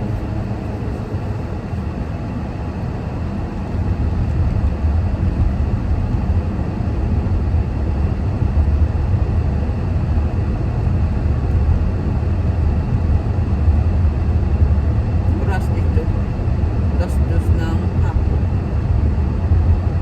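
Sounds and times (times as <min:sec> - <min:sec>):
car rumbling on the move: 0:00.0 - 0:20.0.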